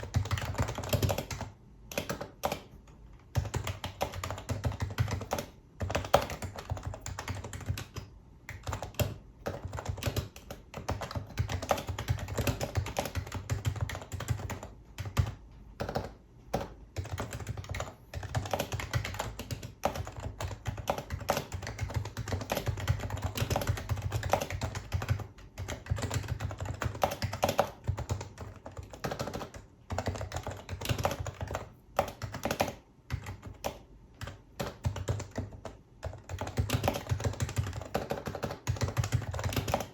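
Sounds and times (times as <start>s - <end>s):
fast soft keyboard typing: 0.0s - 39.9s.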